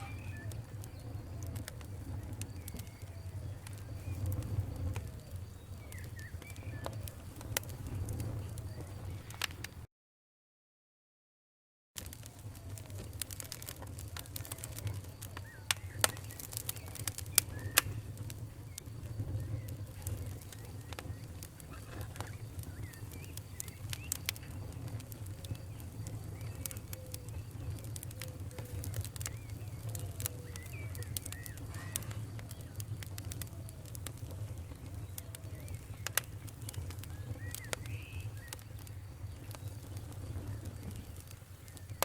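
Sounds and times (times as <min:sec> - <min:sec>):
faint squeaky chirps: 0:00.0 - 0:09.8, 0:14.2 - 0:42.0
fire low rumble: 0:00.0 - 0:09.9, 0:12.0 - 0:42.0
wood fire crackling and popping: 0:00.0 - 0:09.9, 0:12.0 - 0:42.0.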